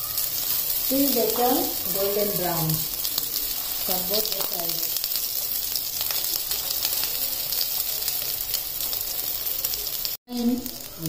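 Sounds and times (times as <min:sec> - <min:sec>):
patties sizzling in oil: 0:00.0 - 0:11.0.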